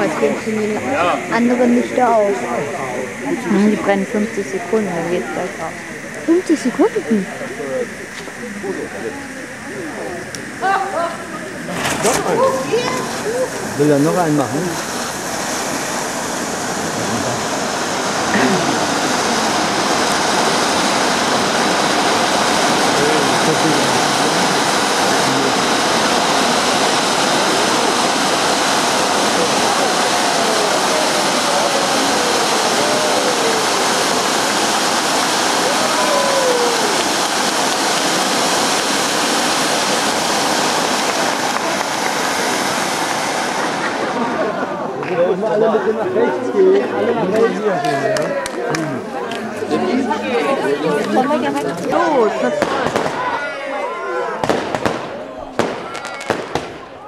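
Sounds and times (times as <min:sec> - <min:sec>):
firework fountains hissing: 0:00.0 - 0:57.0.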